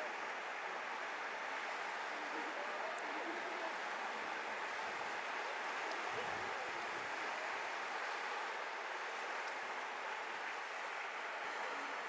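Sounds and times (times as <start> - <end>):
river water rushing: 0.1 - 12.0.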